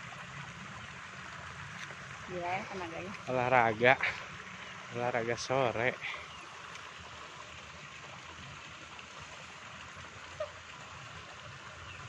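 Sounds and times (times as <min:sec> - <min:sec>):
running water hiss: 0:00.0 - 0:12.0.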